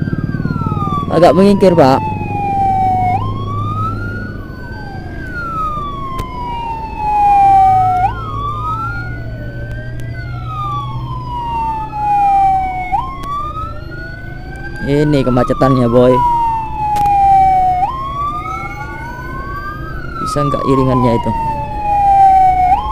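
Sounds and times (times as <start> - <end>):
engine hum: 0.0 - 22.9
sirens wailing: 0.0 - 22.9.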